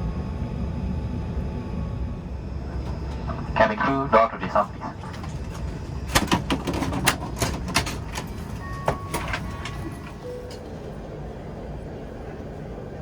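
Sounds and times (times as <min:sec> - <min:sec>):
aircraft systems hum: 0:00.0 - 0:13.0.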